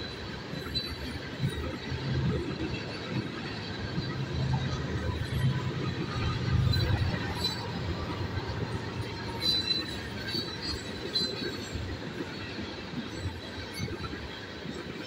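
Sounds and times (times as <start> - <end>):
diesel locomotive hum: 0.0 - 15.0
high wheel squeals: 0.0 - 15.0
train wheels rumbling on rail: 0.0 - 15.0.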